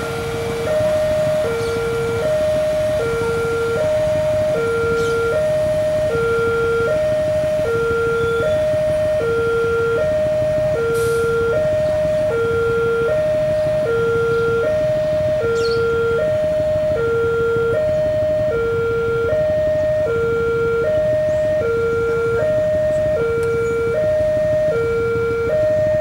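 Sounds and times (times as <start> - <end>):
level crossing two-tone siren: 0.0 - 26.0.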